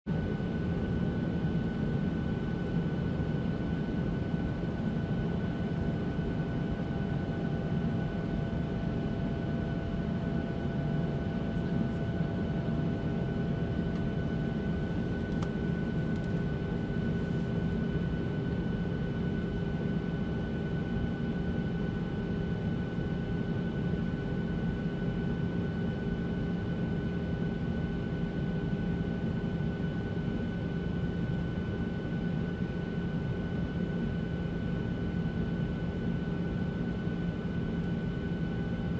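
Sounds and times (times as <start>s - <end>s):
airliner cabin engine rush: 0.1s - 38.9s
faint steady whines: 0.1s - 38.9s.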